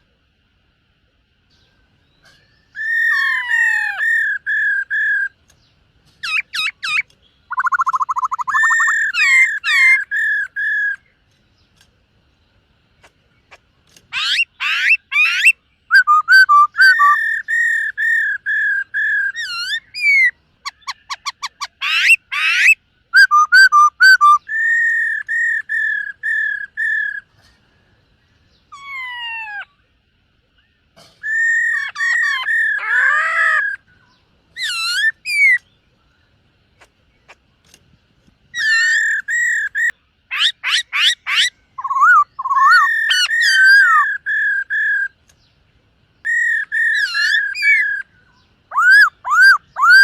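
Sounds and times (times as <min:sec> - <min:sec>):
bird singing whistled notes and trills: 0:01.0 - 0:50.0.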